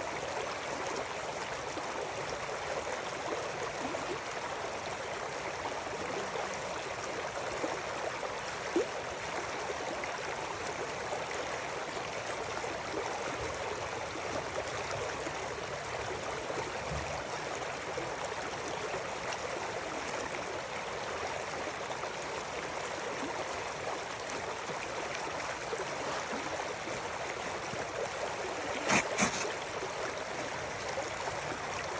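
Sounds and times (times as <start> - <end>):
river water flowing and gurgling: 0.0 - 31.9.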